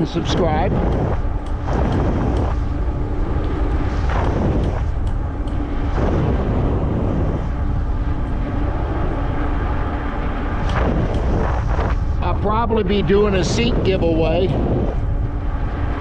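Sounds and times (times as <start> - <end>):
electric motor hum: 0.0 - 16.0
wind buffeting microphone: 0.0 - 16.0.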